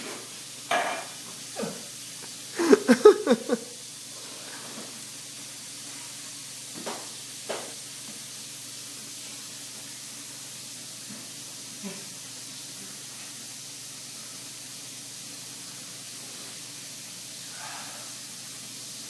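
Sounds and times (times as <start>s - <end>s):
kitchen tap running: 0.0s - 17.6s.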